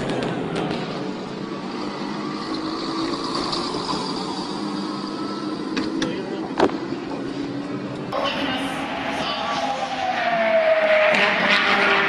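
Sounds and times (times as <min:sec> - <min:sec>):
traffic and engine noise in car: 0:00.0 - 0:11.5.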